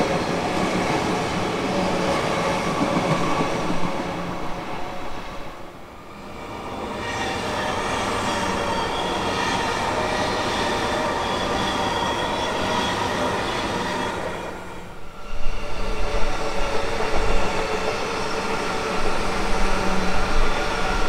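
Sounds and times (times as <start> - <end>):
train wheels rumbling on rails: 0.0 - 5.4, 6.2 - 21.0.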